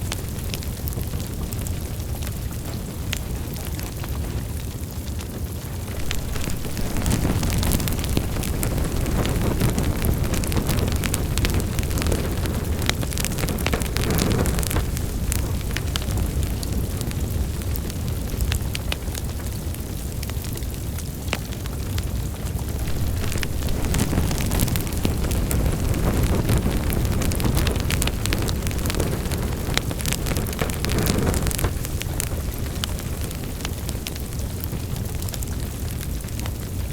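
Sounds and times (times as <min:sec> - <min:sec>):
roar of fire flames: 0:00.0 - 0:36.9
wood fire crackling and popping: 0:00.0 - 0:36.9.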